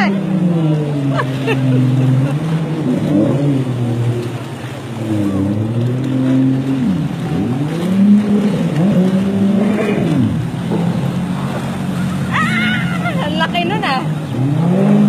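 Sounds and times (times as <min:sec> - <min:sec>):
jet ski engines revving: 0:00.0 - 0:15.0.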